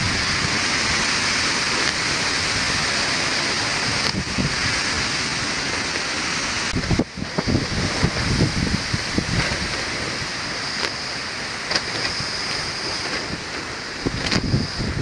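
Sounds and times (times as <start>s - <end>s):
steady high-pitched hiss: 0.0s - 15.0s
wind buffeting microphone: 0.0s - 15.0s.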